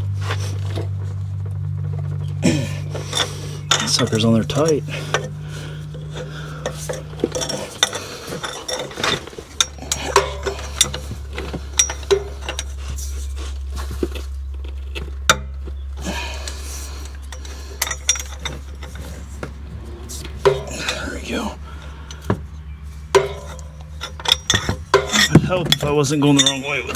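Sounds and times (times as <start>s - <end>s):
steady low hum: 0.0s - 26.9s
metal tools clinking: 2.4s - 15.4s, 16.0s - 26.9s.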